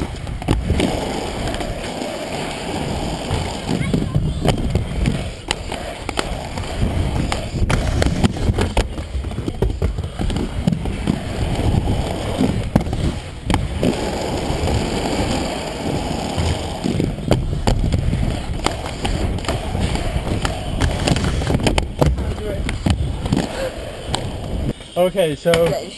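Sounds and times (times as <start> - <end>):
skate wheels clacking on joints: 0.0 - 25.9
skate wheels rolling on concrete: 0.0 - 25.9.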